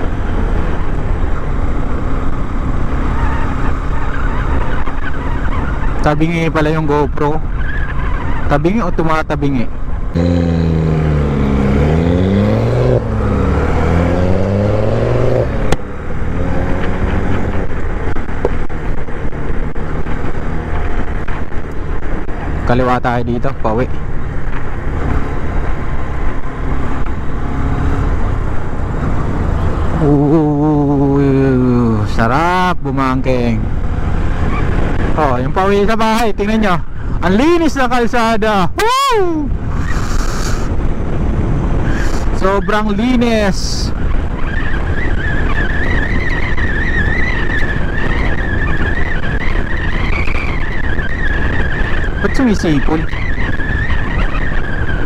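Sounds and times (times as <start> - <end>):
heavy wind noise: 0.0 - 55.0
motorcycle high whine: 0.0 - 55.0
road noise: 0.0 - 55.0.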